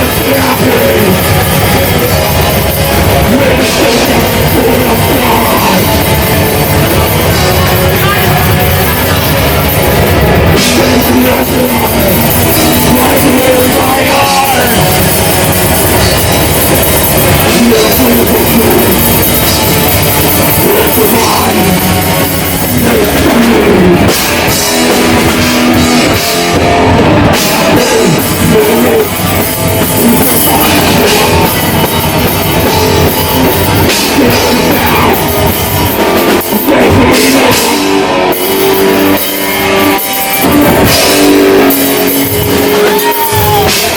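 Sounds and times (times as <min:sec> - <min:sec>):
heavy metal band playing live: 0:00.0 - 0:43.9.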